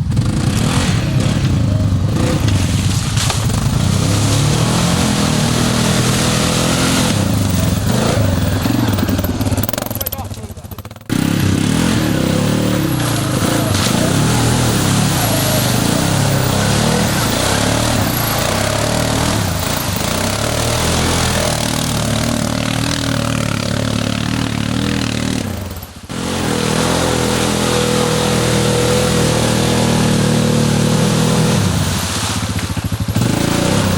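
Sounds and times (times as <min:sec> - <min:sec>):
atv engine revving: 0:00.0 - 0:33.9.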